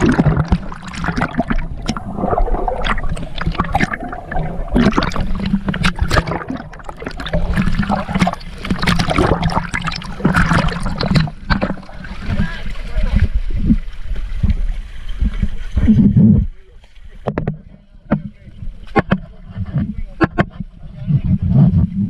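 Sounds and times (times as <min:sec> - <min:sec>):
water splashing and gurgling: 0:00.0 - 0:22.0.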